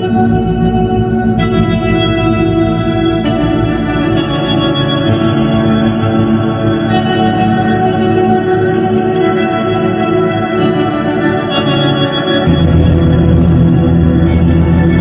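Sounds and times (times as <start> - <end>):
sustained organ-like chords: 0.0 - 15.0.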